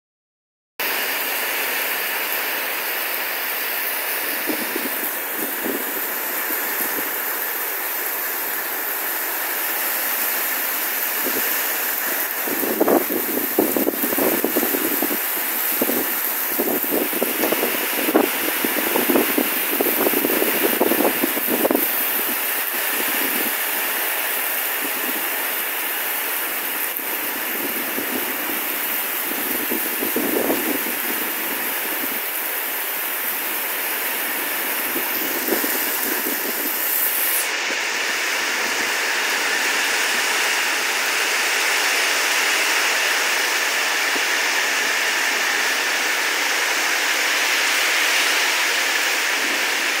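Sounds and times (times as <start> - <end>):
rain and wind rushing: 0.8 - 50.0.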